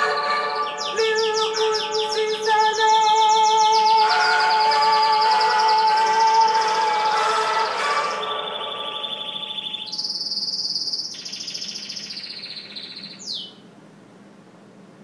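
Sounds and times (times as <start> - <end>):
canary singing trills: 0.0 - 13.7.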